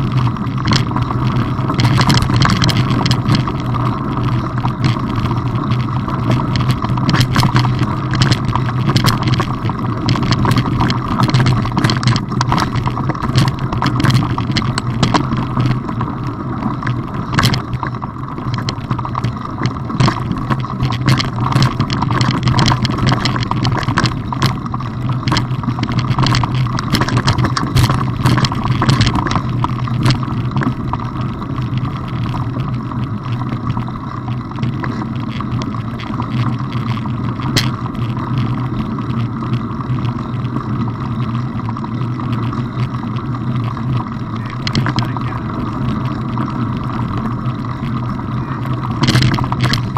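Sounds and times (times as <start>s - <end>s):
gravel clicks and rattles: 0.0s - 49.9s
tyres rumbling on stones: 0.0s - 49.9s.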